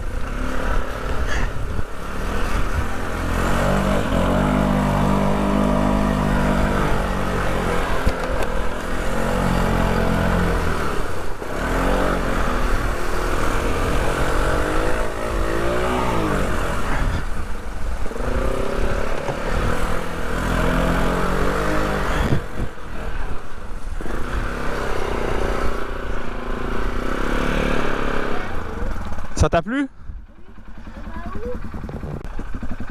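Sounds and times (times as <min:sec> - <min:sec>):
off-road vehicle engine revving: 0:00.0 - 0:29.6, 0:30.2 - 0:32.9.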